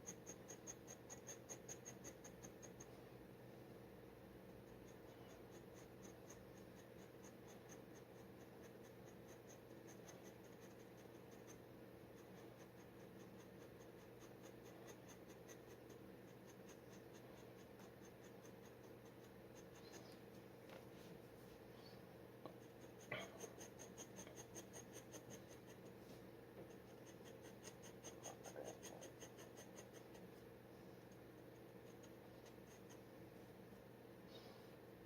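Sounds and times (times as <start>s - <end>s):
dip pen scratching on paper: 0.0s - 2.9s, 4.6s - 20.3s, 22.5s - 26.0s, 26.6s - 33.1s
steady low hum: 0.0s - 35.0s.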